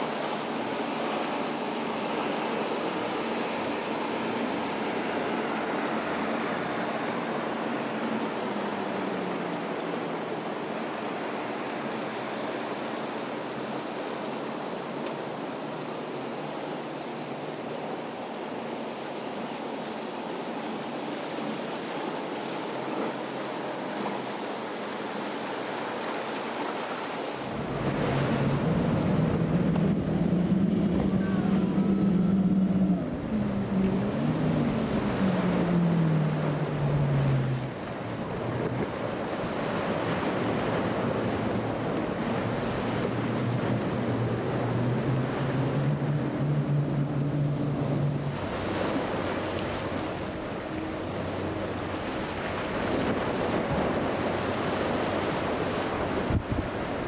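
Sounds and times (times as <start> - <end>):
boat engines droning: 0.0 - 57.0
surf: 0.0 - 57.0
wind: 0.0 - 57.0.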